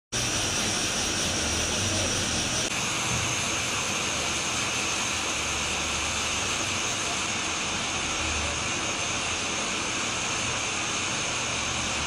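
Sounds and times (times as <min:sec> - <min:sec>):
gas burner flame hissing: 0:00.1 - 0:12.0.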